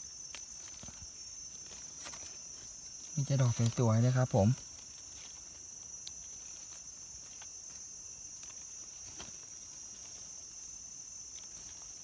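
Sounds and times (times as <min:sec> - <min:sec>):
insects chorus: 0:00.0 - 0:12.0
knife clicks and leaf rustles: 0:00.2 - 0:10.2, 0:11.2 - 0:12.0.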